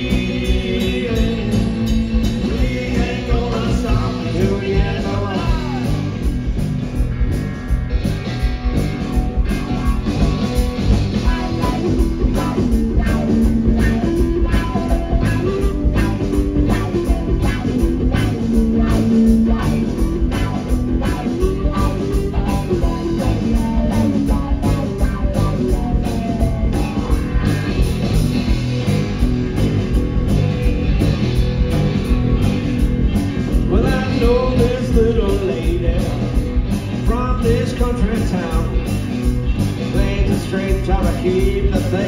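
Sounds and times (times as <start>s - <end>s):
amplified electric guitars: 0.0s - 42.0s
drum kit beat: 0.0s - 42.0s.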